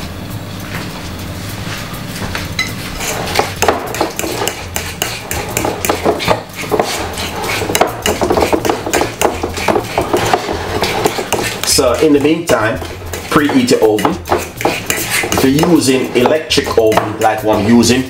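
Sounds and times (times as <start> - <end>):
fork mashing bananas in a bowl: 2.6 - 18.0.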